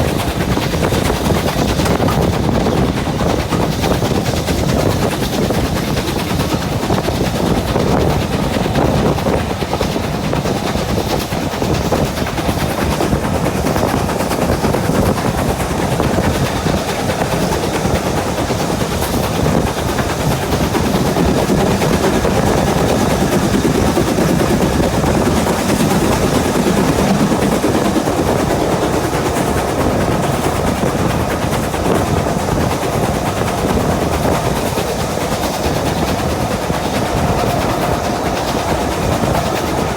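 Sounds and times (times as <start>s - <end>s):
steam locomotive exhaust beats: 0.0s - 39.9s
train running noise: 0.0s - 39.9s.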